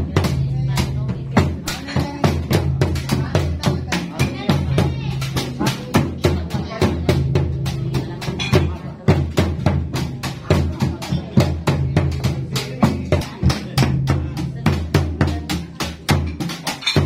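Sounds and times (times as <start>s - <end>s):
drums beaten in fast rhythm: 0.0s - 17.0s.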